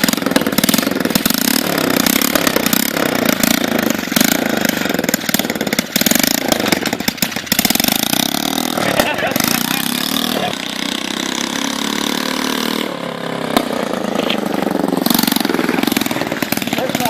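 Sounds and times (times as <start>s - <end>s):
small gas engine revving: 0.0s - 17.0s.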